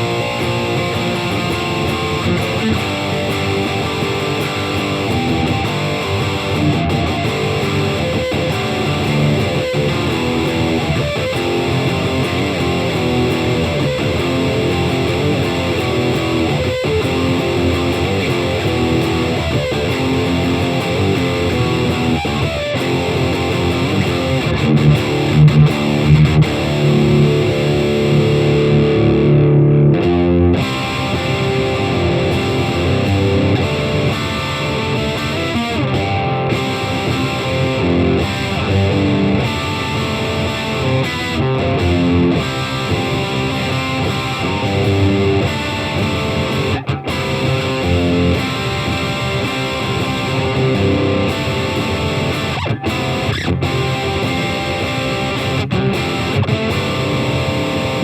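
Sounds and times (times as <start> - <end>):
electric guitar chords and riff: 0.0 - 58.0.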